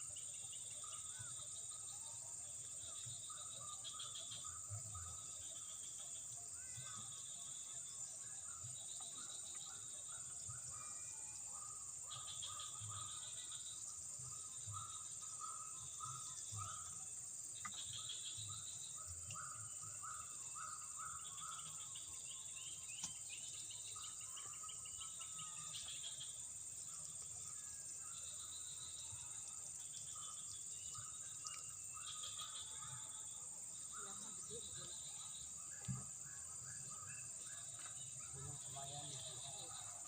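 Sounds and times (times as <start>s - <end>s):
insects buzzing high-pitched: 2.6s - 40.0s.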